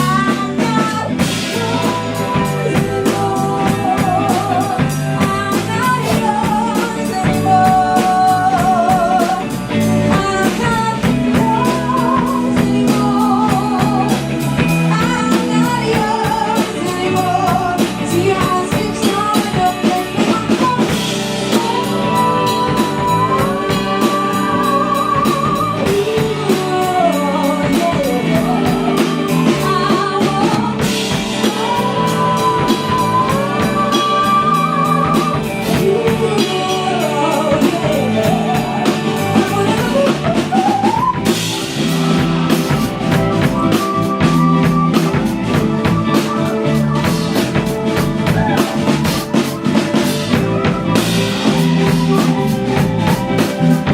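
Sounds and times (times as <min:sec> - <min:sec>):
live band playing: 0:00.0 - 0:53.9
woman singing with vibrato: 0:00.0 - 0:53.9.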